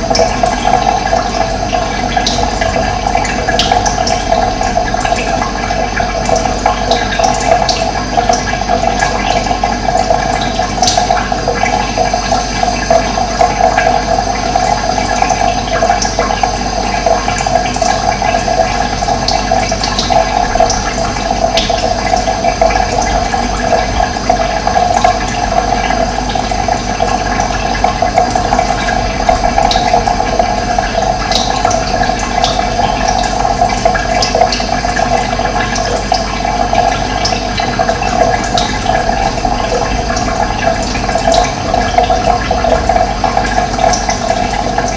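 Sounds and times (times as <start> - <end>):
running water rushing: 0.0 - 44.9.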